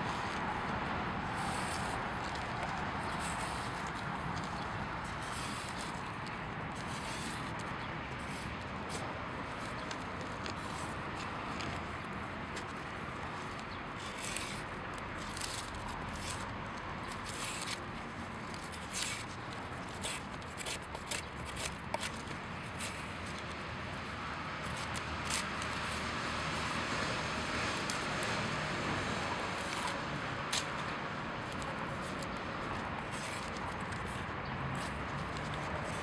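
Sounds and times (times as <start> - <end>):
bark scraping and tearing: 1.3 - 11.9, 12.5 - 28.4, 29.5 - 36.0.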